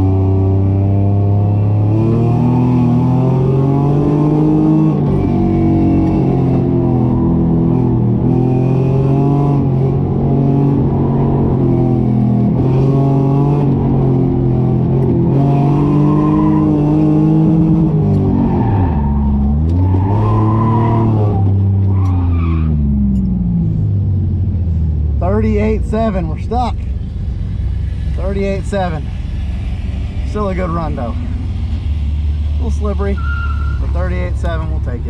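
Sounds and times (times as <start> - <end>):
car engine working hard: 0.0 - 35.0.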